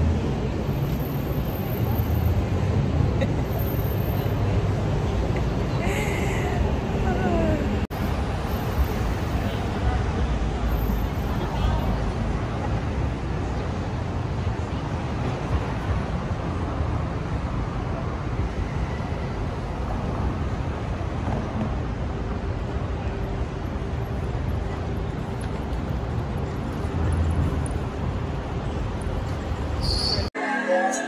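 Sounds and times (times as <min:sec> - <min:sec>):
rumble of passing vehicles: 0:00.0 - 0:30.3.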